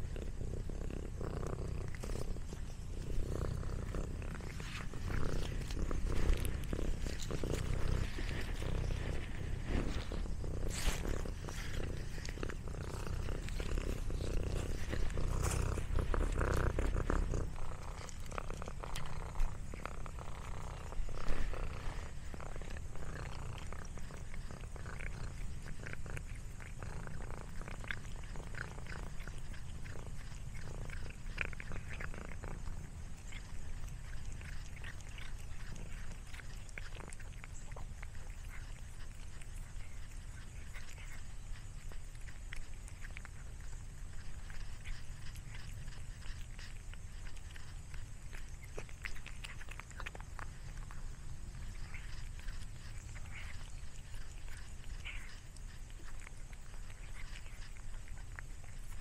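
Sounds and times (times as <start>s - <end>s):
cat purring: 0.0s - 59.0s
small clicks and rustles: 1.5s - 59.0s.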